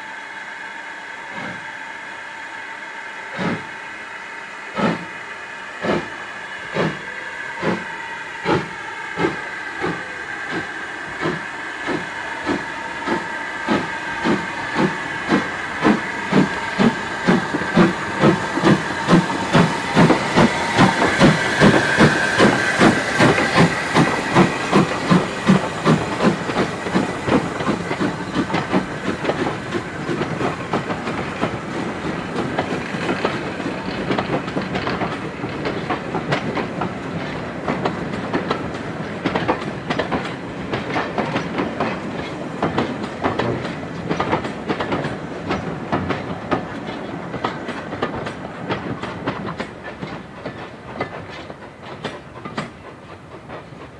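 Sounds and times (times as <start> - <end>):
steam hissing: 0.0 - 53.9
steam locomotive exhaust beats: 0.0 - 53.9.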